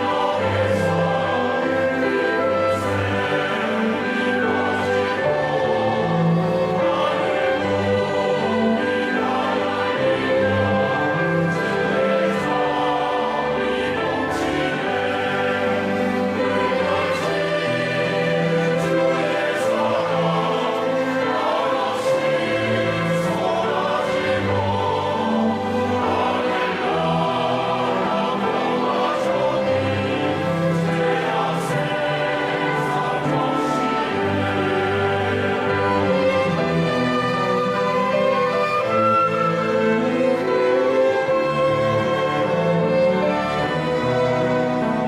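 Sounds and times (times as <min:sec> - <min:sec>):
church choir singing a hymn: 0:00.0 - 0:45.0
orchestral accompaniment: 0:00.0 - 0:45.0.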